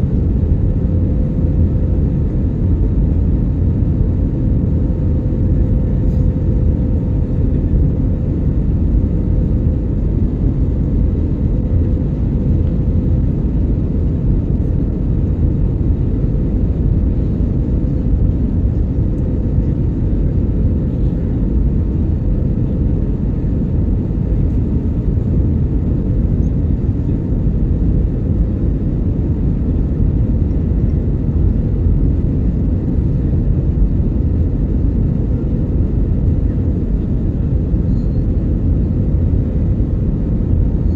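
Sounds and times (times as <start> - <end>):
airliner engine rumble in cabin: 0.0 - 40.9.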